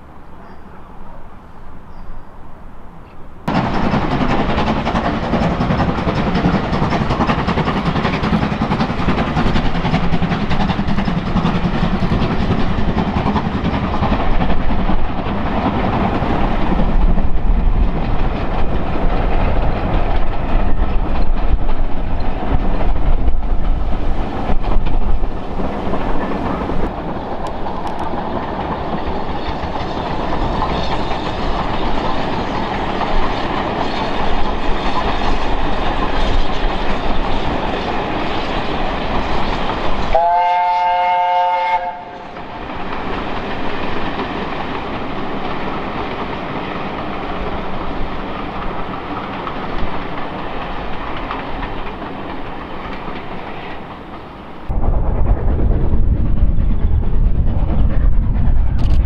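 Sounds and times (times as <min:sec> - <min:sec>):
steam train running: 0:00.0 - 0:54.8, 0:55.9 - 0:59.0.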